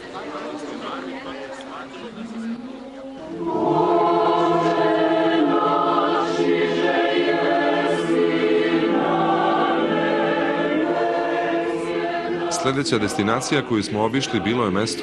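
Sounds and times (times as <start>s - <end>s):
choir singing slow chords: 2.3s - 15.0s.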